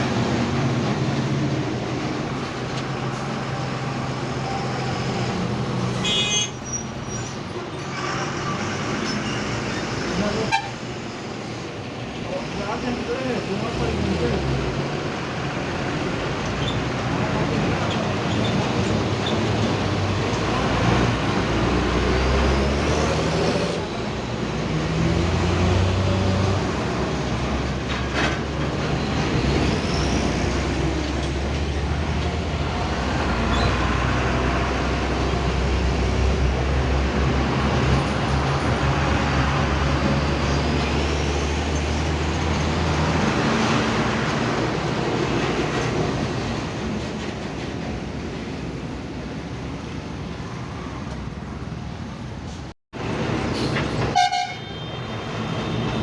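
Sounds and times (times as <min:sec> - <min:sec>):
tyre and road noise: 0:00.0 - 0:56.0.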